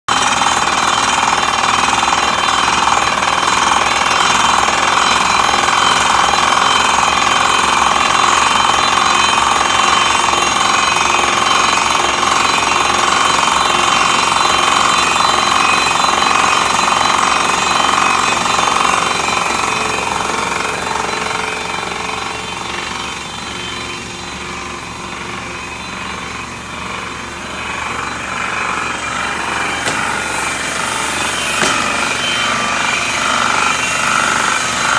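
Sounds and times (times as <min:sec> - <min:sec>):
drilling rig air hammer: 0:00.1 - 0:34.9.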